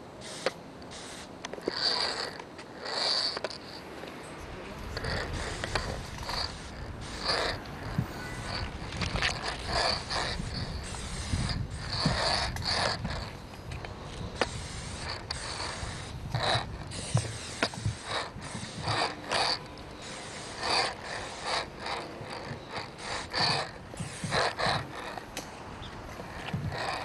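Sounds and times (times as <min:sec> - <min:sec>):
spray paint can hissing: 0:00.2 - 0:03.8, 0:04.9 - 0:13.4, 0:14.0 - 0:25.3, 0:26.2 - 0:27.0.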